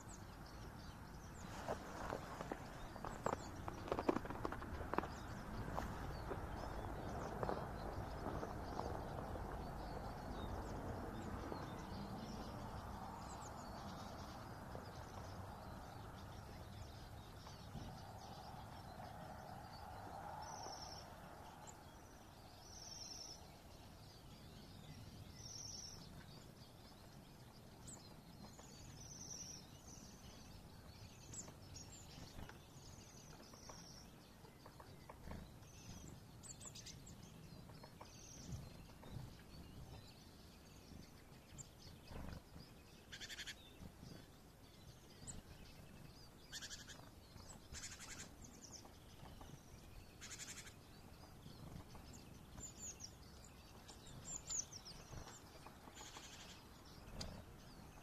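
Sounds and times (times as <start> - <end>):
small songbirds calling: 0.0 - 58.0.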